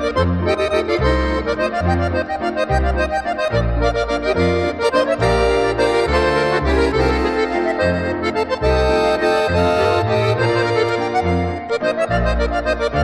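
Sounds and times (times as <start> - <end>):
accordion folk music: 0.0 - 13.0.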